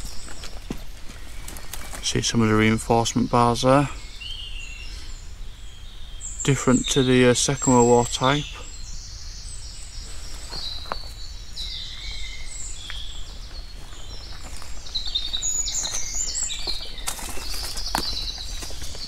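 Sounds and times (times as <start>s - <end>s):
birds singing and chirping: 0.0s - 19.0s.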